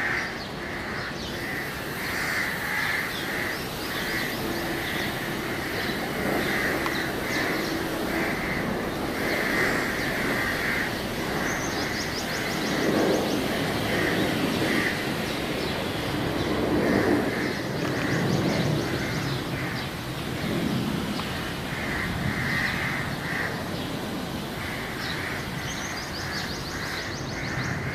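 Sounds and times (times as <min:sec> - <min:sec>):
crows cawing: 0:00.0 - 0:15.7, 0:16.5 - 0:27.9
outdoor background noise: 0:00.0 - 0:27.9.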